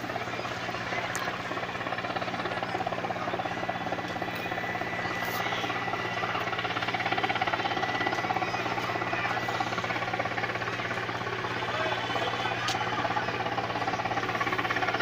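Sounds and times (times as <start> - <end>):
helicopter engine hum: 0.0 - 15.0
helicopter rotor blades beating: 0.0 - 15.0.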